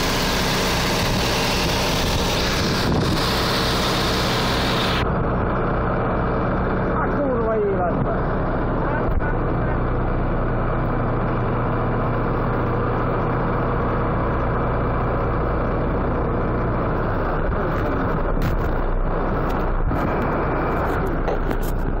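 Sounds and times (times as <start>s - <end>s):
heavy vehicle engine running: 0.0s - 22.0s
low hum: 0.0s - 22.0s.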